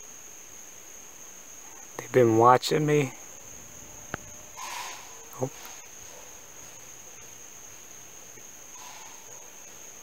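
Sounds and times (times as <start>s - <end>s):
faint outdoor background noise: 0.0s - 10.0s
high-pitched insect trill: 0.0s - 10.0s.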